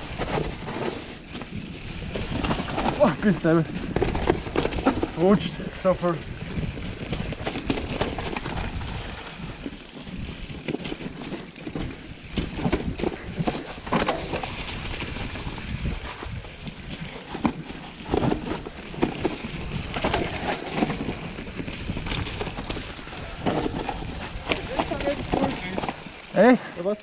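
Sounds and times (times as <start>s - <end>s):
bike knocks and rattles: 0.0s - 26.7s
bike tyres skidding through leaves: 0.0s - 27.0s.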